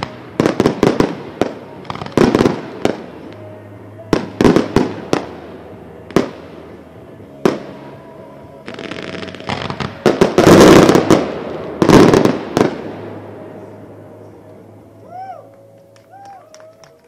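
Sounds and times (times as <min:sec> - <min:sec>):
firework bangs: 0:00.0 - 0:13.8
firework bursts: 0:00.0 - 0:14.3
firework crackling: 0:00.0 - 0:17.0.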